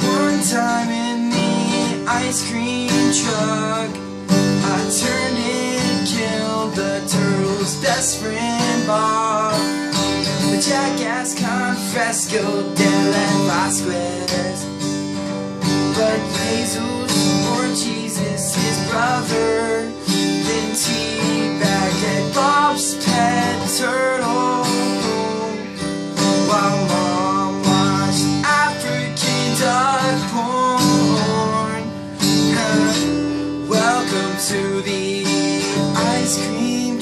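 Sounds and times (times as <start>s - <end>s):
acoustic guitar strumming: 0.0s - 37.0s
man singing: 0.0s - 37.0s.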